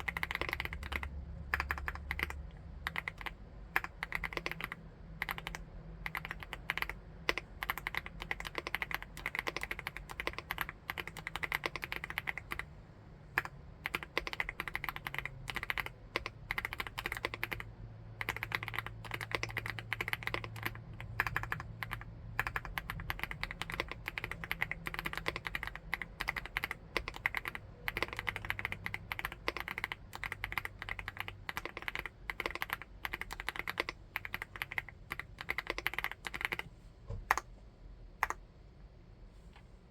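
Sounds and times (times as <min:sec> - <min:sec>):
fast keyboard typing: 0:00.0 - 0:12.7, 0:13.3 - 0:37.5.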